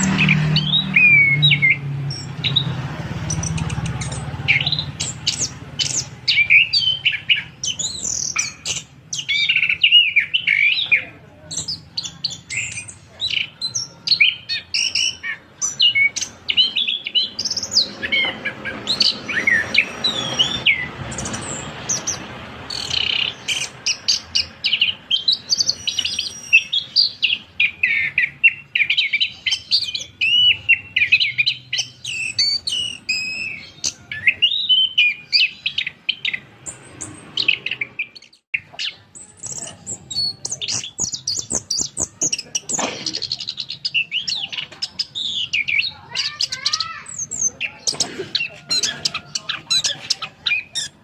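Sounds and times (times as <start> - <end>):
thrush singing whistled phrases: 0.0 - 42.6.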